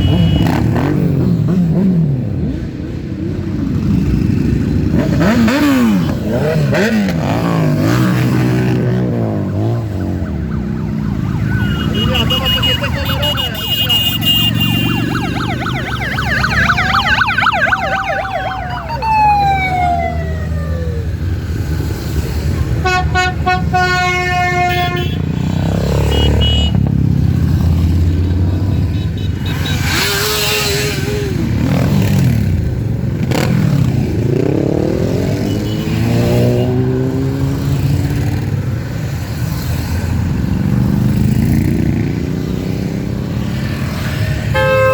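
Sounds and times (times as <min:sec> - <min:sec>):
motorcycle engines revving: 0:00.0 - 0:44.9
traffic rumble: 0:00.0 - 0:44.9.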